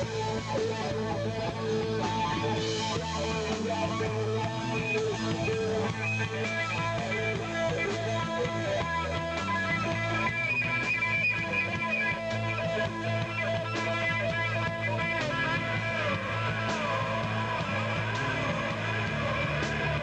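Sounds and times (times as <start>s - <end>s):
drum kit steady beat: 0.0s - 20.0s
electric guitars sustained notes: 0.0s - 20.0s.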